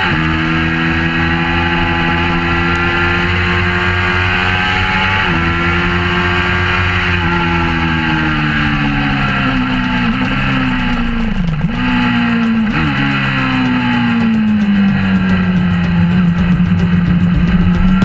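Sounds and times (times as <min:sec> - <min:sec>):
motorcycle engine at high revs: 0:00.0 - 0:18.0
wind noise: 0:00.0 - 0:18.0.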